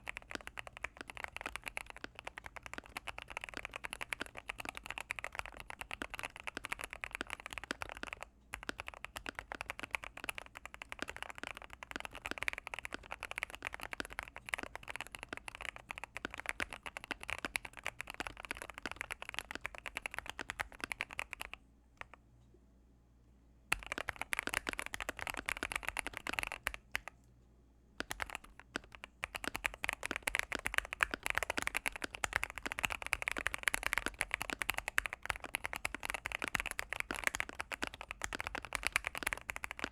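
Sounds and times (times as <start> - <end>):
fast typing on mechanical keyboard: 0.0 - 22.2, 23.7 - 27.1, 28.0 - 39.9.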